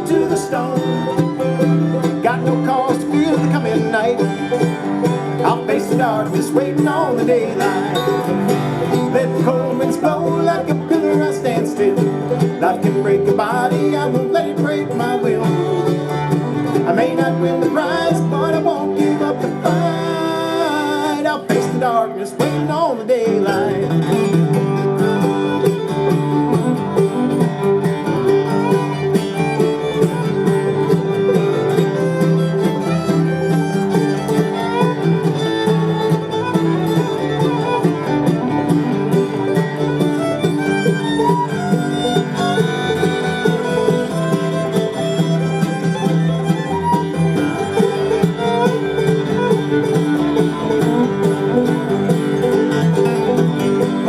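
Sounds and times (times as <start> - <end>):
acoustic guitar rhythm: 0.0 - 54.0
fiddle melody: 0.0 - 54.0.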